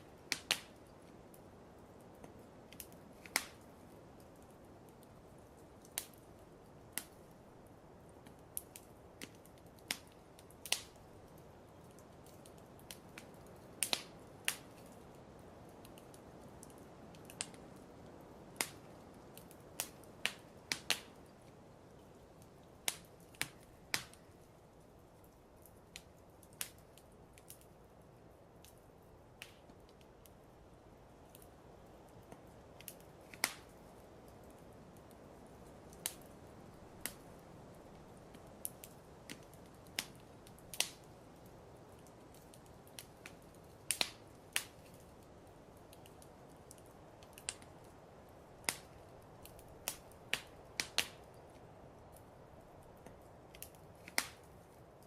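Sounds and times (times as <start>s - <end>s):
fireplace crackling and popping: 0.0s - 55.0s
soft steady hiss: 0.0s - 55.0s.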